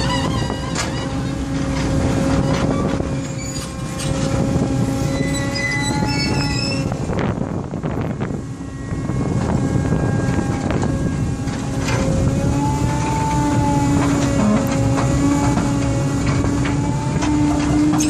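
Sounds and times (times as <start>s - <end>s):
excavator engine rumble: 0.0s - 18.0s
held whine: 0.0s - 18.0s.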